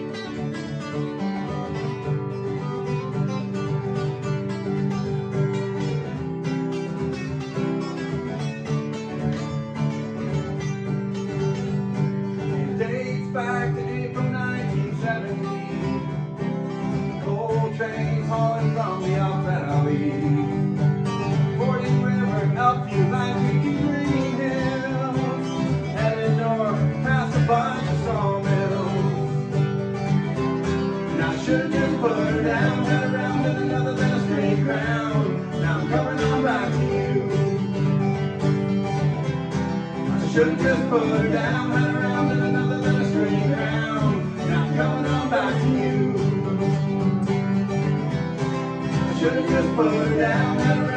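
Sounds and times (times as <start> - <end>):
acoustic guitar strumming: 0.0 - 50.9
electric guitar lead line: 0.0 - 50.9.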